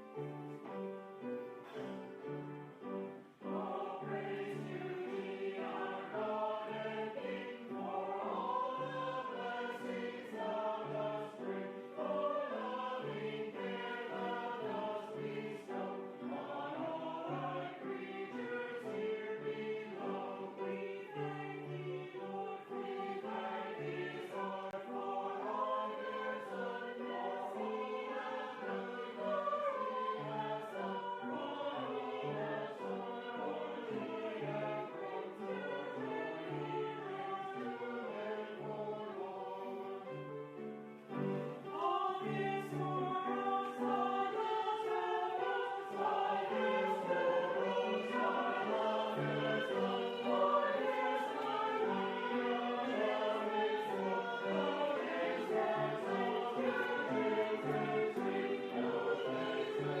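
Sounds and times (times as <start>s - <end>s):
choir singing: 0.0s - 60.0s.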